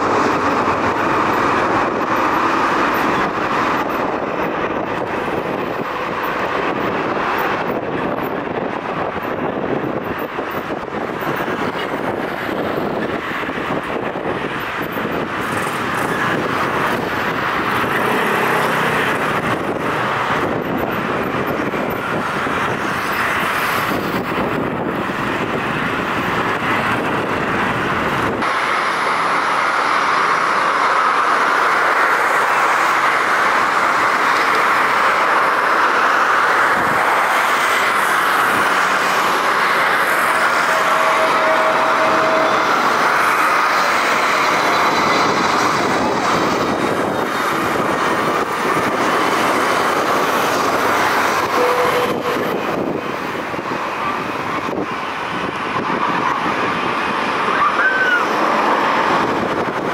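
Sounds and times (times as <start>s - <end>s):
jet engines rushing hiss: 0.0s - 59.9s.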